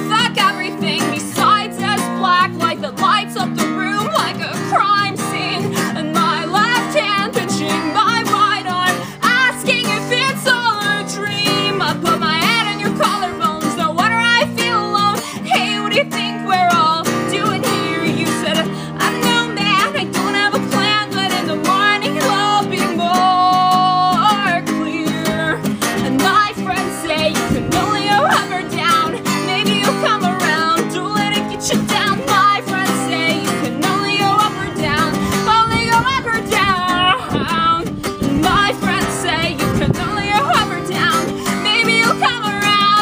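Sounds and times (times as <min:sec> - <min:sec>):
strummed acoustic guitar: 0:00.0 - 0:43.0
woman singing: 0:00.0 - 0:43.0.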